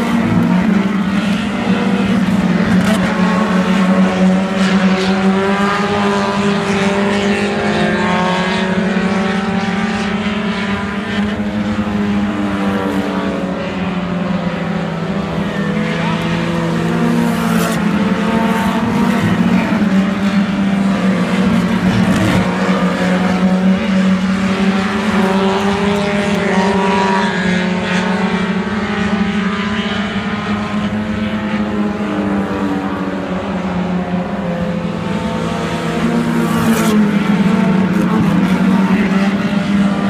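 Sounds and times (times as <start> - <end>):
race car engines passing: 0.0 - 40.0.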